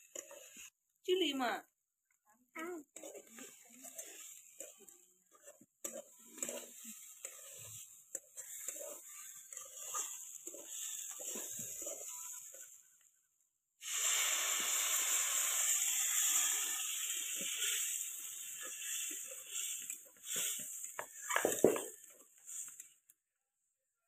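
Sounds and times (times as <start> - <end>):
metal spatula scraping a pan: 0.0 - 0.7, 2.8 - 13.0, 14.0 - 22.9
water sizzling in hot pan: 0.0 - 1.6, 2.6 - 13.1, 13.8 - 23.0.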